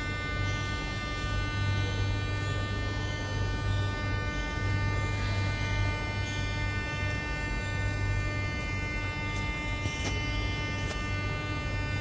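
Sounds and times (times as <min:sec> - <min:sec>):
subway train electrical buzz: 0:00.0 - 0:12.0.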